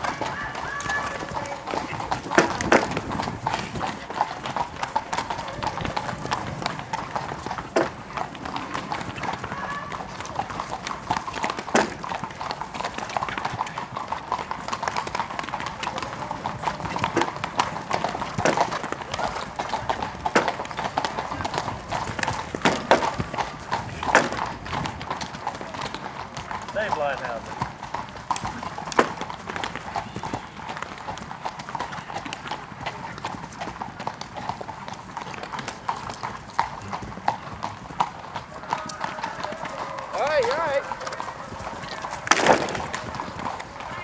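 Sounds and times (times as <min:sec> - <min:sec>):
hooves drumming on turf: 0:00.0 - 0:44.0.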